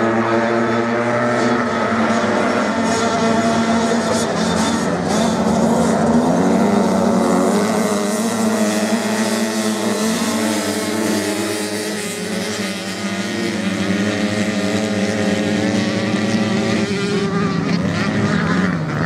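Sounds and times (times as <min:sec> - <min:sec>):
off-road motorcycle engines racing: 0:00.0 - 0:19.0.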